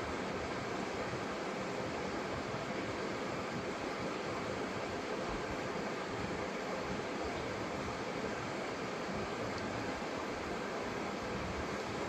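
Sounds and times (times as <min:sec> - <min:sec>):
wood stove rushing hiss: 0:00.0 - 0:12.0.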